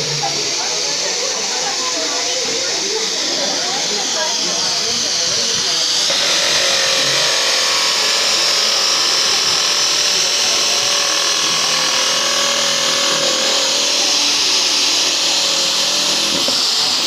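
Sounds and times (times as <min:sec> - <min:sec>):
power tool running: 0:00.0 - 0:17.0.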